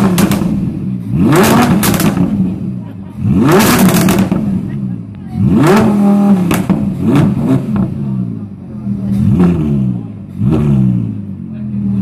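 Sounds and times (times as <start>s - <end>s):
exhaust cracks: 0.0s - 11.2s
car engine revving: 0.0s - 12.0s.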